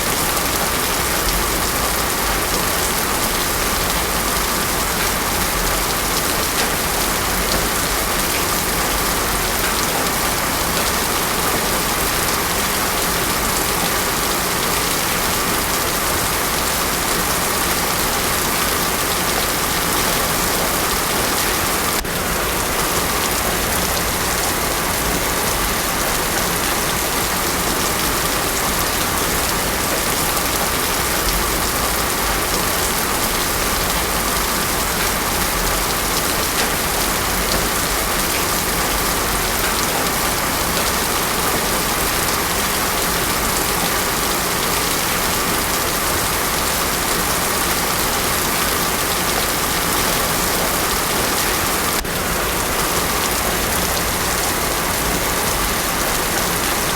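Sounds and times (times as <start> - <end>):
heavy rain on a road: 0.0 - 56.9.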